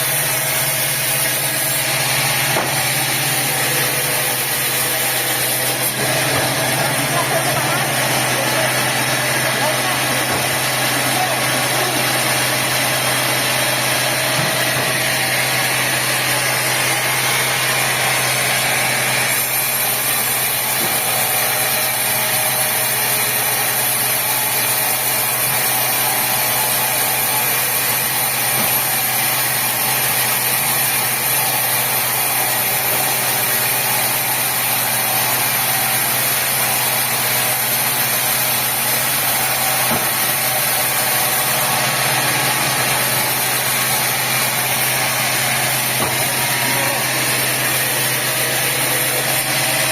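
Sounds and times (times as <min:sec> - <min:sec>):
sawmill machinery hum: 0:00.0 - 0:49.9.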